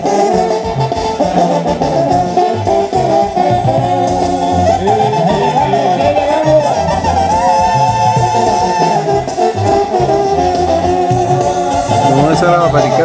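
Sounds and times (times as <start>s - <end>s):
background music with pulsing bass: 0.0s - 13.0s.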